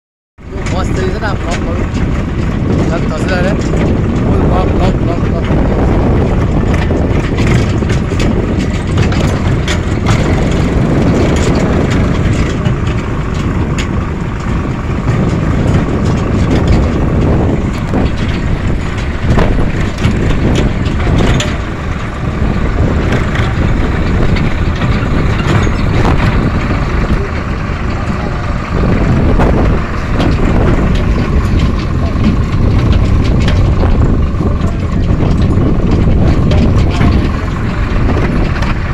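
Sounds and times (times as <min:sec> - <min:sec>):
vehicle engine and road noise: 0:00.4 - 0:38.9
clicks and knocks: 0:00.5 - 0:38.9.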